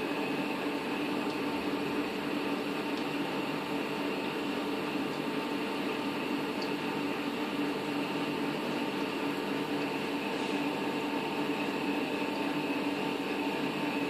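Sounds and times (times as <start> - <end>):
aquarium equipment humming: 0.0 - 14.0.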